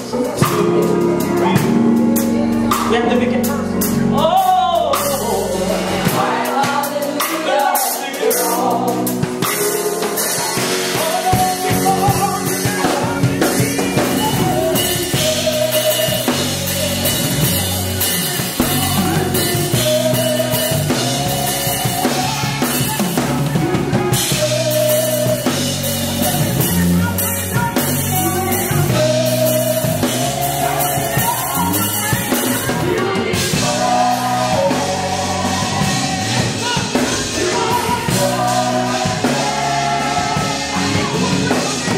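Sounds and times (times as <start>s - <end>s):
bass guitar: 0.0s - 41.9s
drum kit: 0.0s - 41.9s
keyboard: 0.0s - 41.9s
lead singer singing: 0.0s - 41.9s
voices singing: 0.0s - 41.9s.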